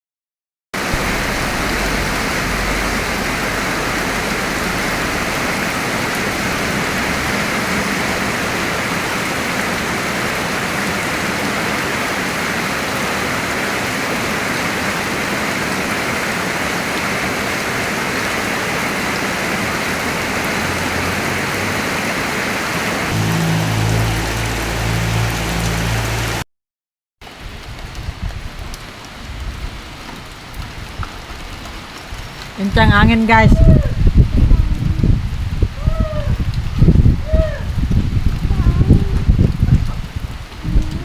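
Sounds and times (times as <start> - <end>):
heavy rain pattering: 0.8 - 26.4, 27.2 - 41.0.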